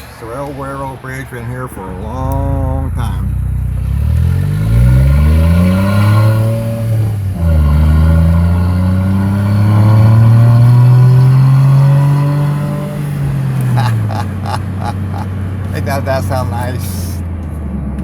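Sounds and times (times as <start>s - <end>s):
vehicle engine accelerating: 0.0s - 18.0s.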